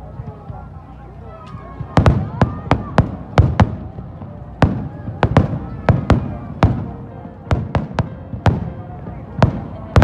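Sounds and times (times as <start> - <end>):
fireworks bangs with echo: 1.7 - 10.0.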